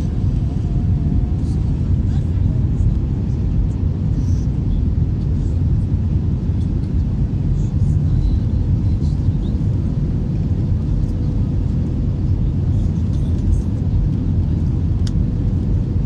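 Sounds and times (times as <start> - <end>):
airliner low rumble: 0.0 - 16.0
faint steady hum: 0.0 - 16.0.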